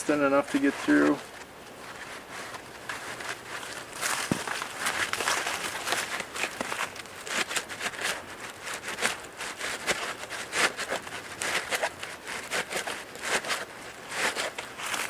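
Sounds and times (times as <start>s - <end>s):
strap rubbing through foam: 0.0s - 15.0s.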